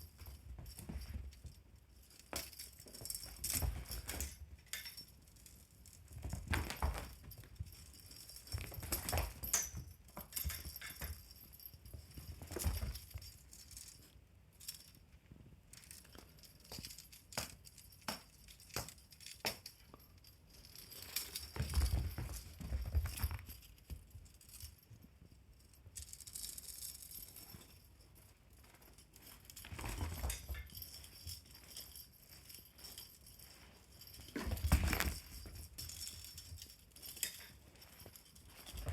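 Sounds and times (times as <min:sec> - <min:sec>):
small bells jingling: 0:00.0 - 0:15.1, 0:15.7 - 0:38.9.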